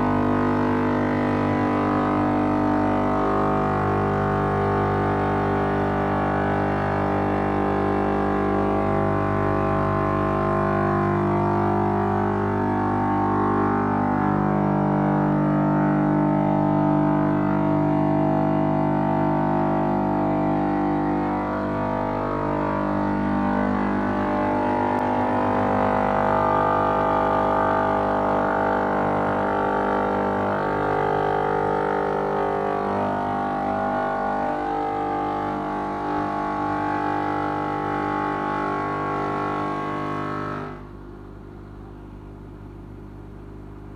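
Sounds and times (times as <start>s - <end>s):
stone cutting machine drone: 0.0s - 41.0s.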